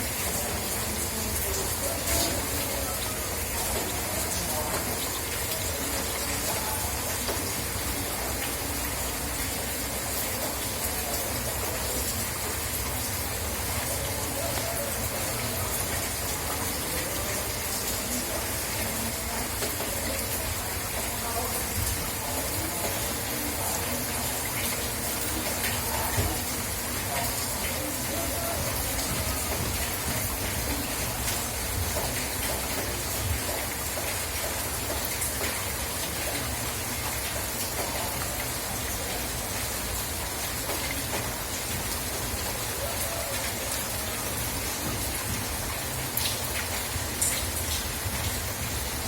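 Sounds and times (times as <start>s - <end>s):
steady rain falling: 0.0s - 49.0s
water dripping and splashing: 0.0s - 49.0s.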